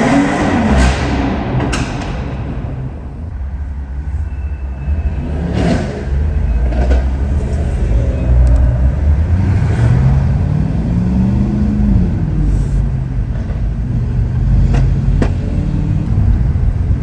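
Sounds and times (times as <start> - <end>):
car engine rumble: 0.0 - 17.0
exhaust cracks: 0.0 - 17.0.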